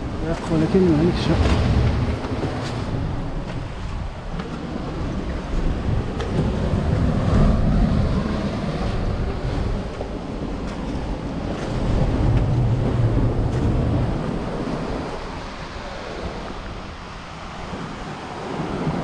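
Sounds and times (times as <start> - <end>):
sea waves on rocky shore: 0.0 - 19.0
wind buffeting microphone: 0.0 - 19.0.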